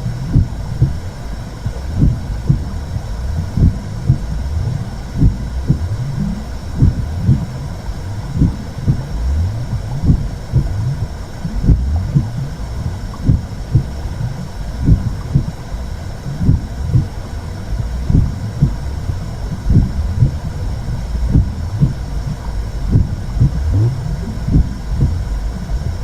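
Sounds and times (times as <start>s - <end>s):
muffled low whooshing rumble: 0.0s - 26.0s
slow heartbeat: 0.0s - 26.0s.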